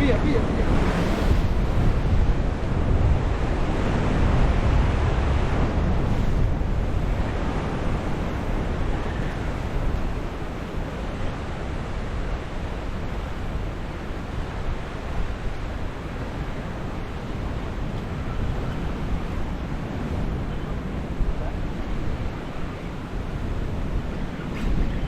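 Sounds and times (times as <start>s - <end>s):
ocean surf washing against rocks: 0.0s - 25.0s
wind on microphone: 0.0s - 25.0s.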